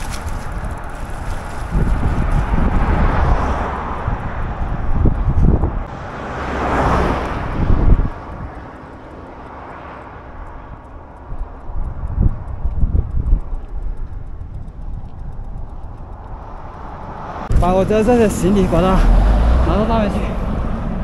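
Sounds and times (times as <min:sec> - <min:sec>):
vehicles passing by: 0:00.0 - 0:21.0
wind buffeting microphone: 0:00.0 - 0:21.0.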